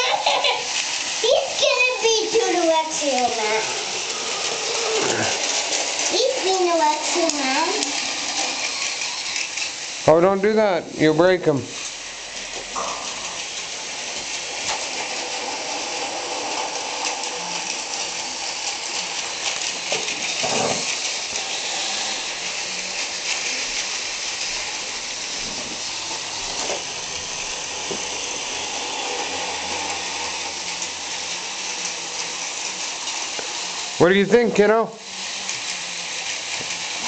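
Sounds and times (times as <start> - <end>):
toy train motors whirring: 0.0 - 37.0.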